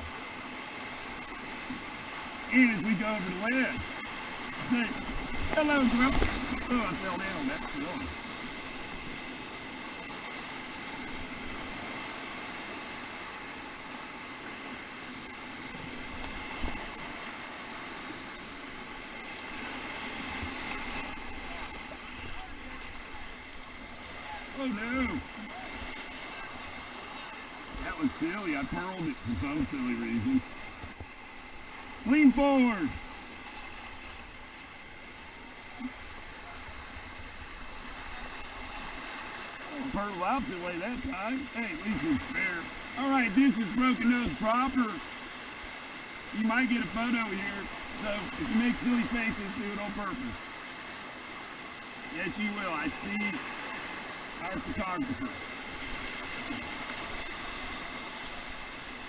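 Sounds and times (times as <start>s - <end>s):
whitewater rushing: 0.0s - 59.0s.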